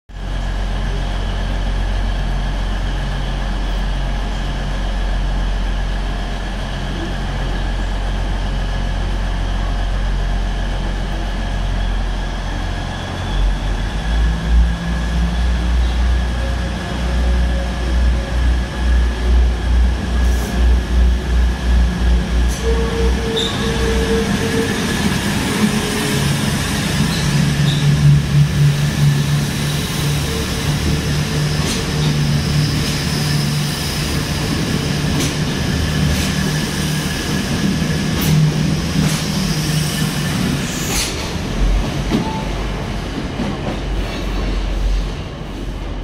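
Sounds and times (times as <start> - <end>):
diesel train engine throbbing: 0.1 - 46.0.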